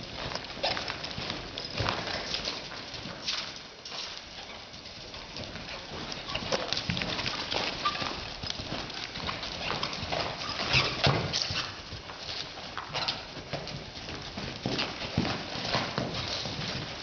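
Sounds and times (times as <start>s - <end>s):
hoofbeats on loose dirt: 0.0s - 17.0s.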